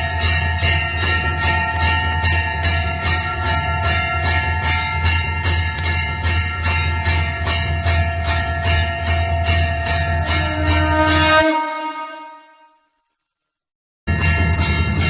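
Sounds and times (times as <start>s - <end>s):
temple bell ringing: 0.0s - 12.8s, 14.1s - 15.0s.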